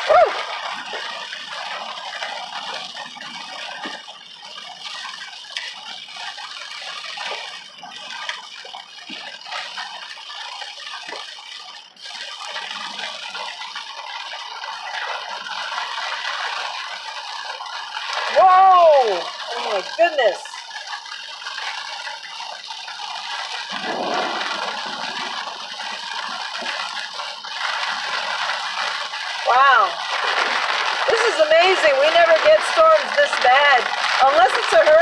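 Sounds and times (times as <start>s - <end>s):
rain on a car roof: 0.0s - 35.0s.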